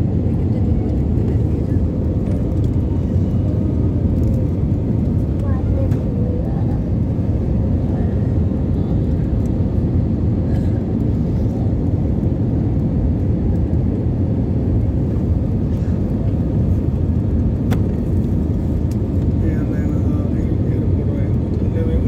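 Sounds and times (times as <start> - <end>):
airliner cabin engine and airflow noise: 0.0 - 22.0.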